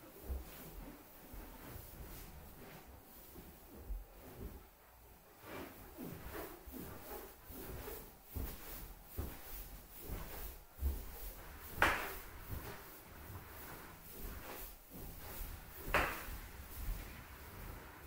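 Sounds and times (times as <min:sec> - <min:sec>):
rubbing and handling sounds: 0:00.0 - 0:18.0.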